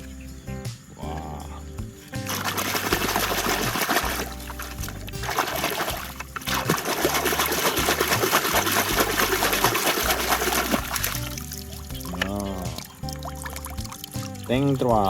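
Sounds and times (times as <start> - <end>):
background music with bass line: 0.0 - 15.0
water splashing and trickling: 1.8 - 15.0.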